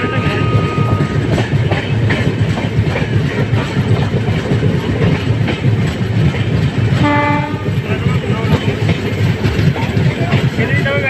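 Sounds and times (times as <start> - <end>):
train wheels rumbling: 0.0 - 11.0
wheels clickety-clack over rail joints: 0.0 - 11.0.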